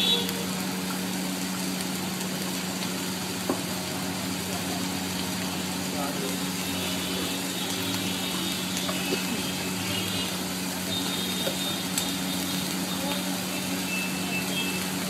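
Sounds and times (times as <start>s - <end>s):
rice frying on a griddle: 0.0s - 15.0s.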